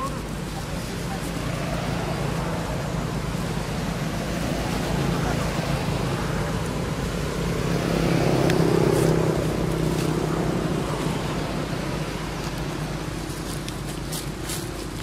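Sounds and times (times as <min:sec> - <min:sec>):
motor vehicle engine hum: 0:00.0 - 0:15.0.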